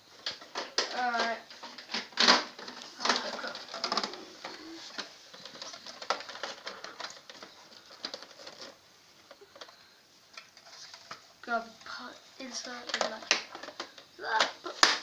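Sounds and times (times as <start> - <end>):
plastic parts clicking and rattling: 0.2 - 15.0.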